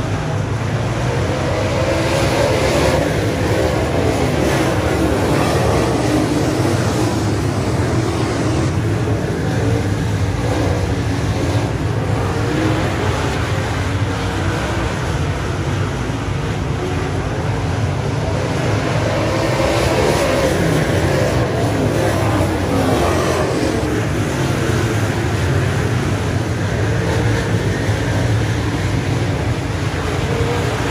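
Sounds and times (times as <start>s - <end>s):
race car engines roaring: 0.0s - 30.9s.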